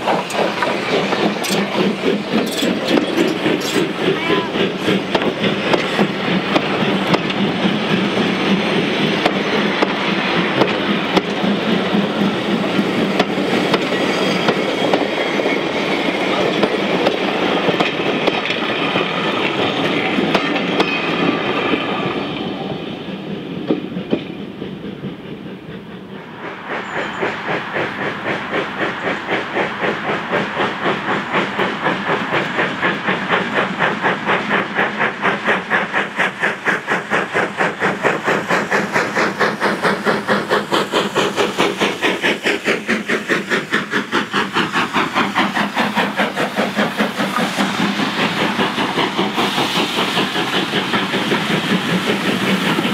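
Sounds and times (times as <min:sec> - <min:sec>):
steam locomotive exhaust beats: 0:00.0 - 0:52.9
train wheels clickety-clack: 0:00.0 - 0:52.9.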